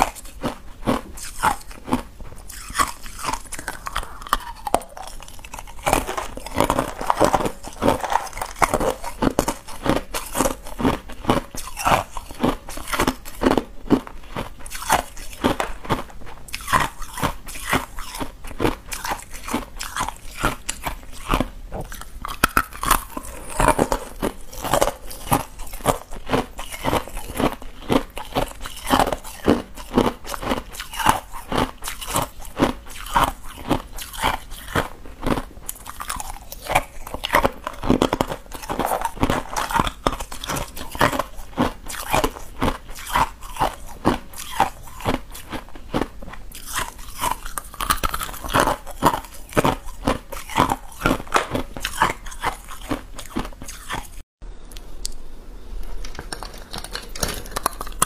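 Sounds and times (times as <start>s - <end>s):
person crunching ice: 0.0s - 54.2s.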